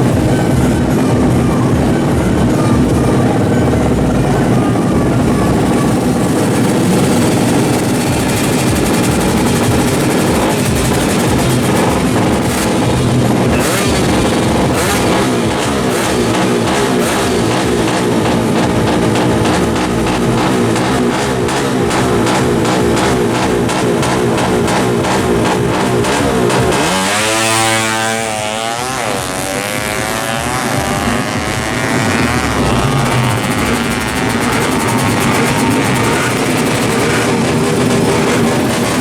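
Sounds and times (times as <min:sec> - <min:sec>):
background music with beat: 0:00.0 - 0:39.0
two-stroke engine revving: 0:00.0 - 0:39.0.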